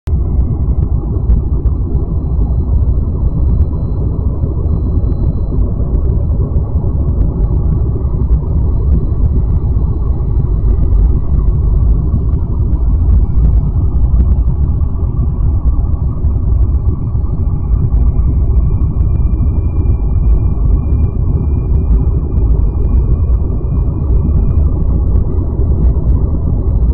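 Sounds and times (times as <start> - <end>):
deep rumble: 0.0 - 26.9.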